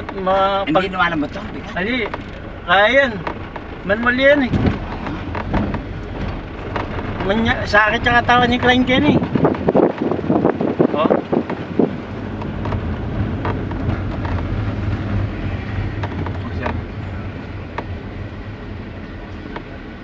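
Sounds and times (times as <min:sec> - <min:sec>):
car cabin engine and road drone: 0:00.0 - 0:20.0.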